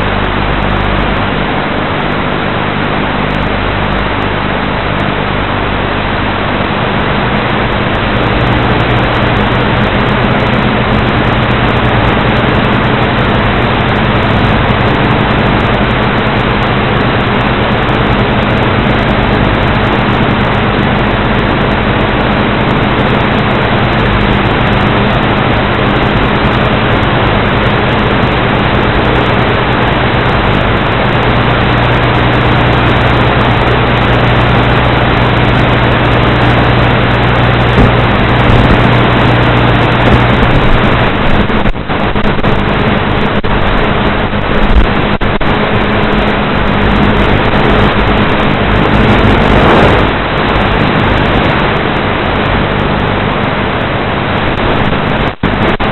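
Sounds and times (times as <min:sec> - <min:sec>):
wind rush: 0:00.0 - 0:55.9.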